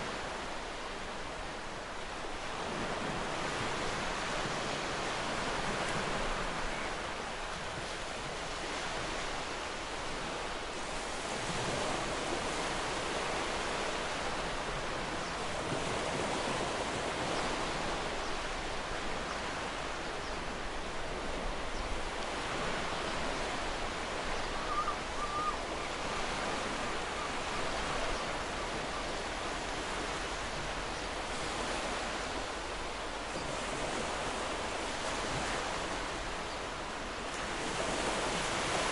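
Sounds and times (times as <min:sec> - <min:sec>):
sea waves on shore: 0:00.0 - 0:38.9.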